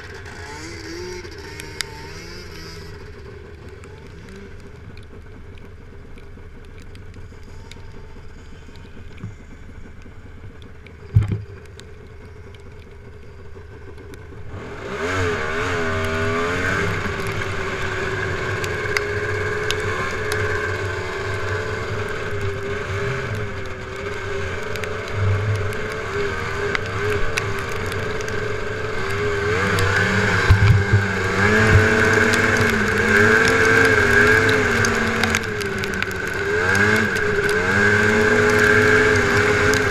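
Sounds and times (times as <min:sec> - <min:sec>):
snowmobile engine: 0:00.0 - 0:39.9.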